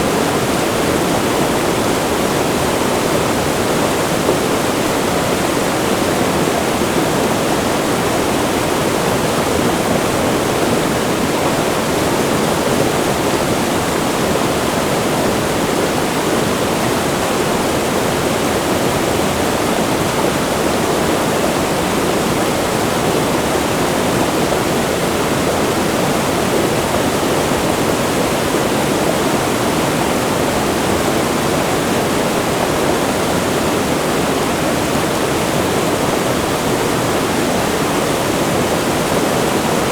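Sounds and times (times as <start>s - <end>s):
river roaring near waterfall: 0.0s - 39.9s.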